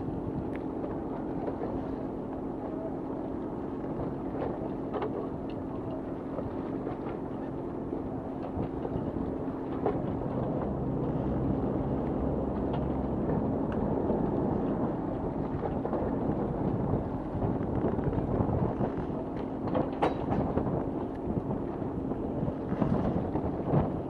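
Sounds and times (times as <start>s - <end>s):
boat engine running: 0.0s - 24.0s
water noise: 0.0s - 24.0s
wind: 0.0s - 24.0s.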